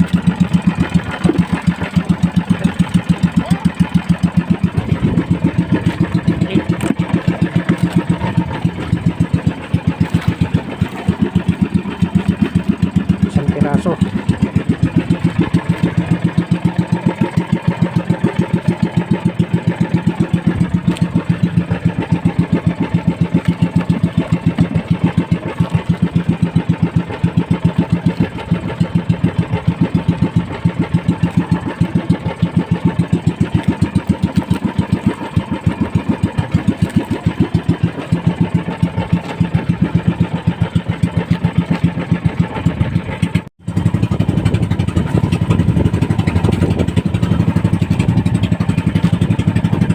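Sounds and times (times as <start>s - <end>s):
small boat engine puttering: 0.0s - 49.9s.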